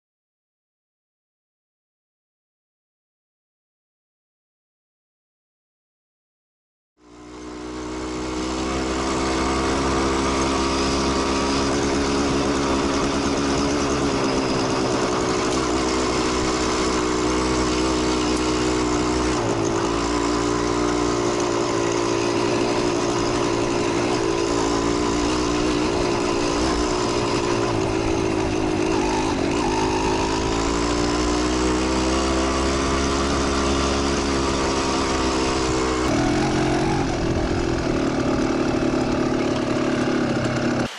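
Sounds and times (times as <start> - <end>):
motorcycle engine running: 7.0 - 40.9.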